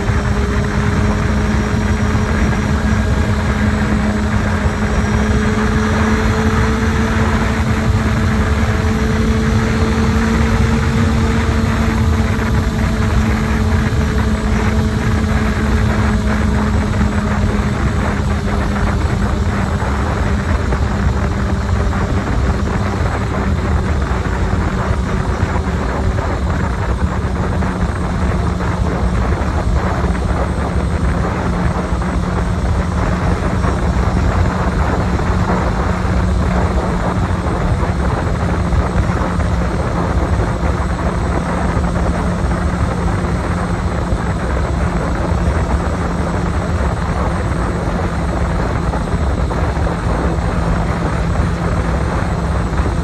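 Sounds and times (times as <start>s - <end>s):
motorcycle engine running: 0.0s - 53.0s
wind rush on microphone: 0.0s - 53.0s.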